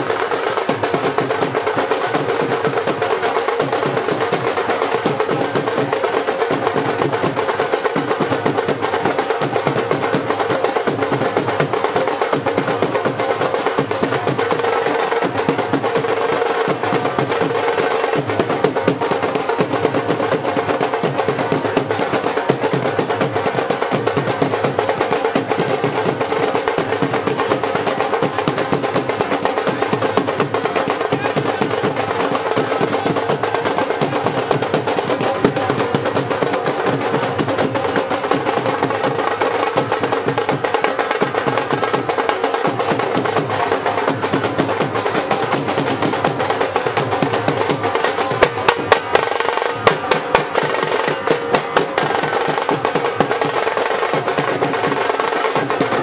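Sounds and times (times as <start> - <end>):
fast continuous drumming: 0.0 - 56.0.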